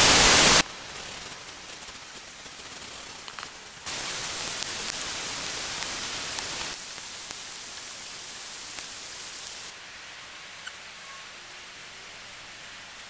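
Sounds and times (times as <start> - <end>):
hiss of rain: 0.0 - 13.0.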